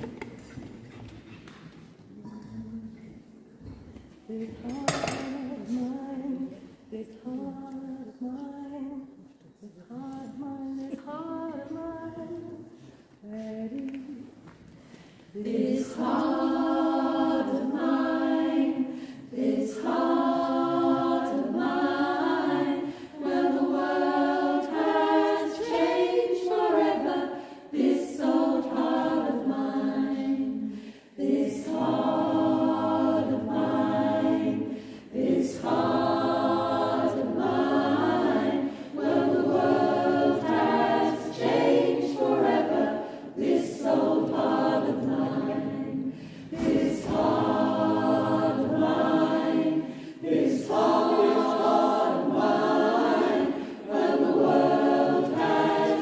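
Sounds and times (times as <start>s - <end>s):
choir singing a cappella: 2.2s - 56.0s.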